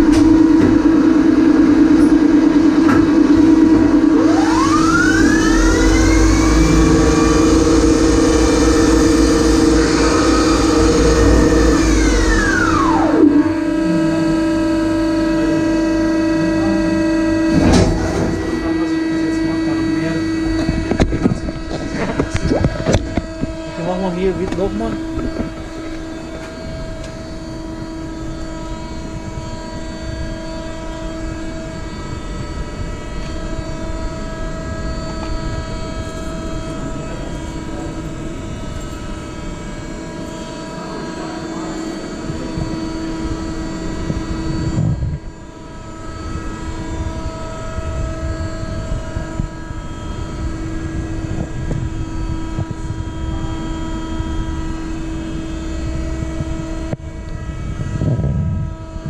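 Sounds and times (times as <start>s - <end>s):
lathe machine hum: 0.0s - 59.0s.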